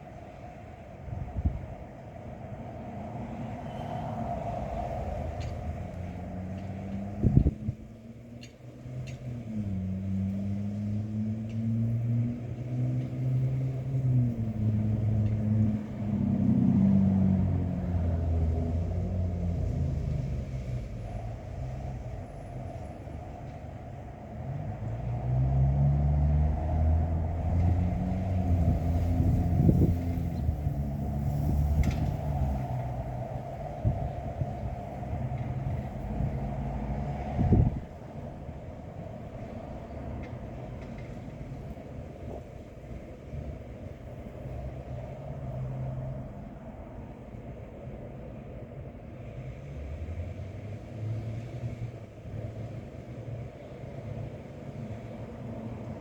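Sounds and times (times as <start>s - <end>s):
wind gusting: 0.0s - 8.1s, 11.1s - 48.3s.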